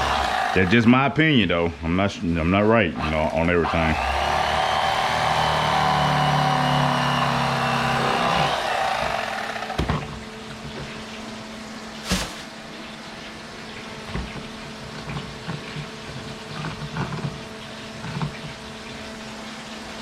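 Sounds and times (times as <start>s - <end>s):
water running at a sink: 0.0s - 7.8s, 8.5s - 20.0s.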